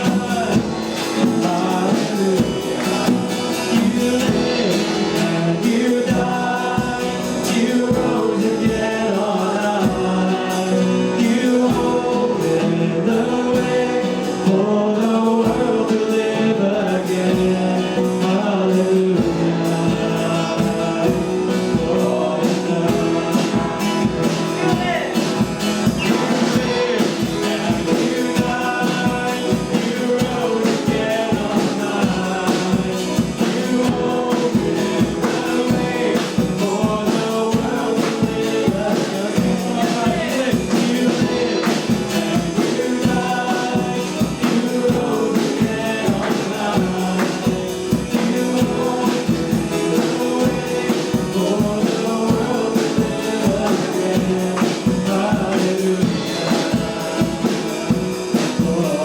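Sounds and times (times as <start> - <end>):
drums keeping a steady beat: 0.0 - 59.0
live band playing: 0.0 - 59.0
singing voices: 0.0 - 59.0.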